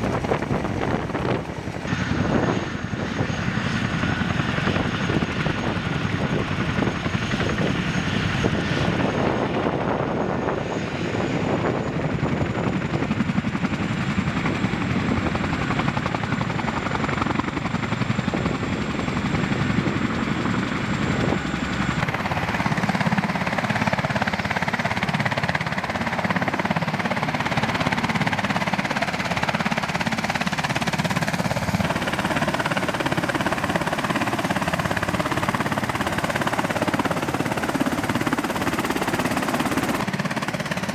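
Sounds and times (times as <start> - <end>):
helicopter flying away: 0.0 - 40.9
helicopter running on ground: 0.0 - 40.9.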